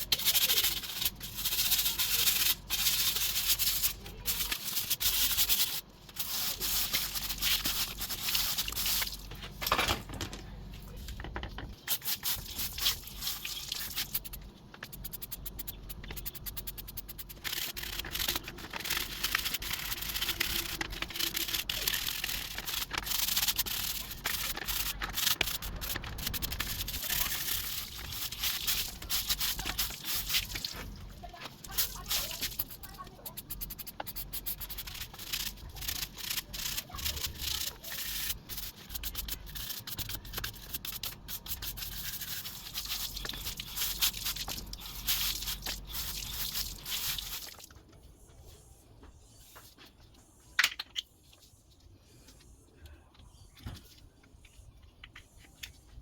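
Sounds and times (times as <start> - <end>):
rubbing and scraping strokes: 0.0 - 9.6, 11.7 - 47.6.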